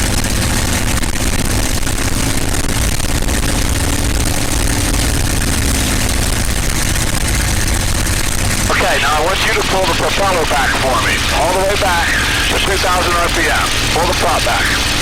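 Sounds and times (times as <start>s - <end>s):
aircraft piston engine droning: 0.0s - 15.0s.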